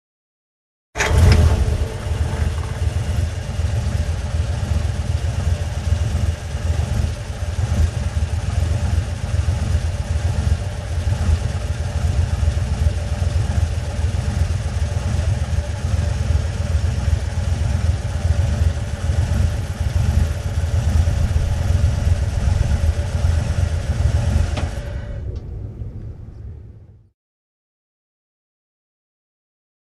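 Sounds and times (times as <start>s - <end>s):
old truck engine running: 1.0s - 26.2s.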